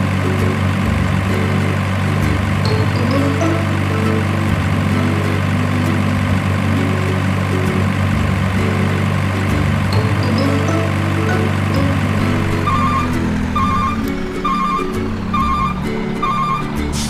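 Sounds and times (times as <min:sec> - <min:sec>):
low drone: 0:00.0 - 0:17.0
simple tune of held notes: 0:00.0 - 0:17.0.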